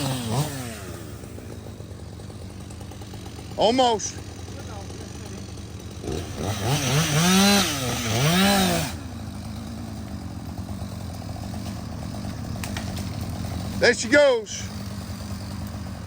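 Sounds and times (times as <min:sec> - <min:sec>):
chainsaw revving: 0:00.0 - 0:16.0
engine idling: 0:00.0 - 0:16.0.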